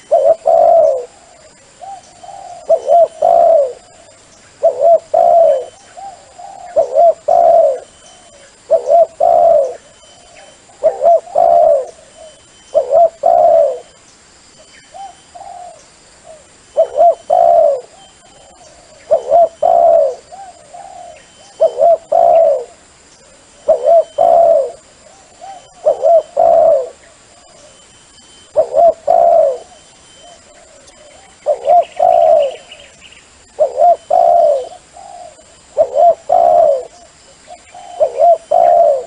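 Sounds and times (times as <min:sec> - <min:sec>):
dove cooing: 0:00.0 - 0:14.0, 0:14.9 - 0:39.0
faint bird chirps: 0:00.0 - 0:39.0.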